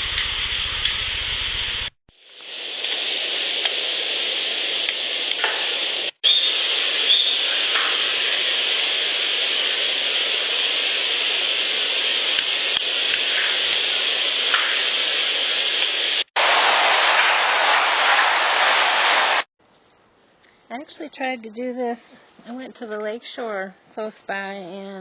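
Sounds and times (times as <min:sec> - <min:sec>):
recorder noise floor hiss: 0:00.0 - 0:25.0.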